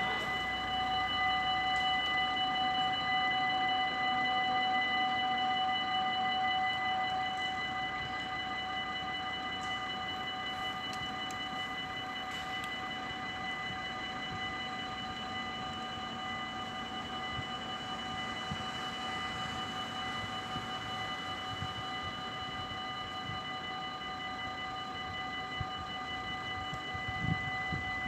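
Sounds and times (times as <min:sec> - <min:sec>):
level-crossing warning bells ringing: 0:00.0 - 0:28.0.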